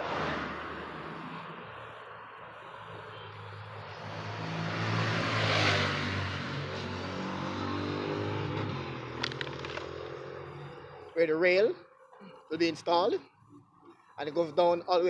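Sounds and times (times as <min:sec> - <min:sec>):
vehicle driving past: 0:00.0 - 0:12.6.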